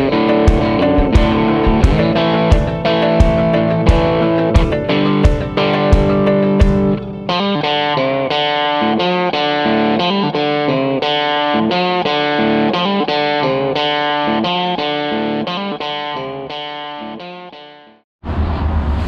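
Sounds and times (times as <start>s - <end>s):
distorted electric guitar riff: 0.0s - 18.0s.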